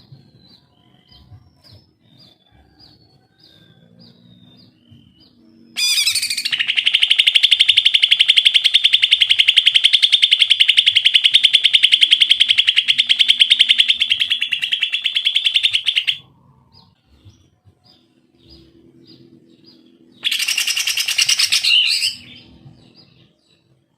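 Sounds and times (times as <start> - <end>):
bird singing fast trill: 0.0 - 23.8.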